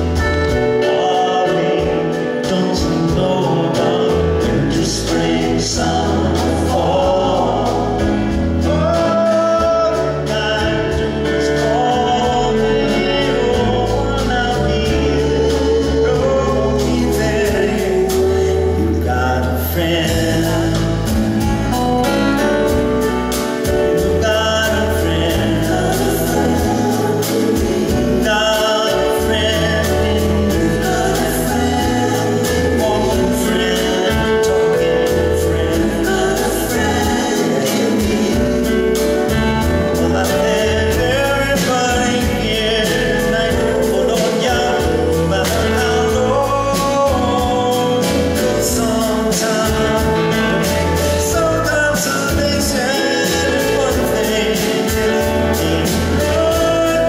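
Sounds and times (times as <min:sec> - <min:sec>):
people singing: 0:00.0 - 0:21.9, 0:22.6 - 0:57.0
acoustic guitar: 0:00.0 - 0:57.0
band accompaniment: 0:00.0 - 0:57.0.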